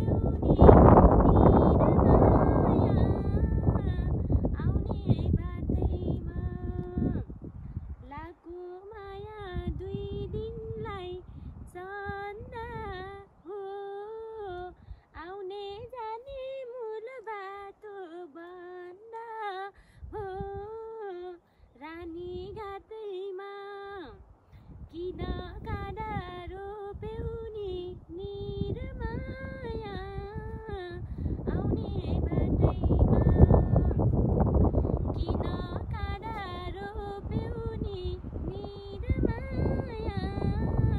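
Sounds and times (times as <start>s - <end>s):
woman singing unaccompanied: 0.0s - 40.9s.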